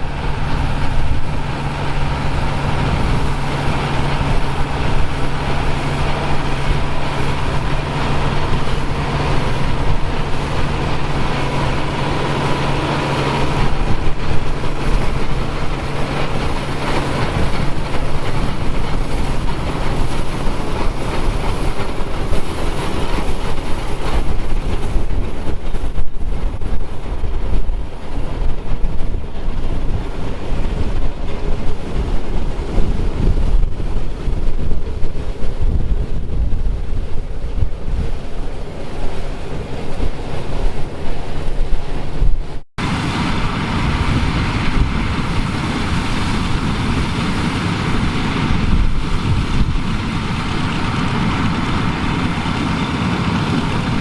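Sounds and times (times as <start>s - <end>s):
farm machinery engines running: 0.0s - 54.0s
wind buffeting microphone: 0.0s - 54.0s.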